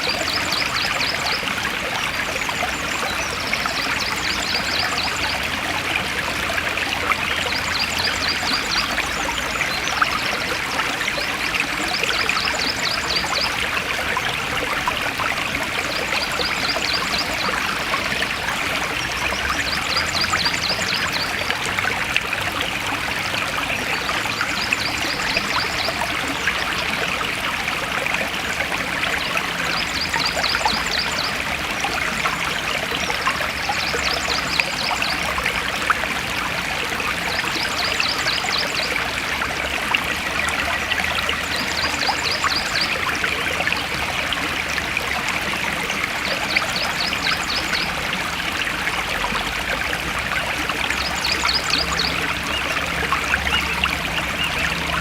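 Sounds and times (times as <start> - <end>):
forest stream flowing: 0.0 - 55.0.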